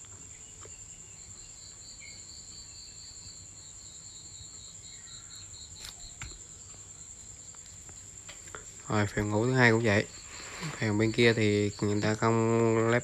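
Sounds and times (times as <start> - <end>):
insect high-pitched whine: 0.0 - 13.0
lower pulsing insect trill: 0.0 - 13.0.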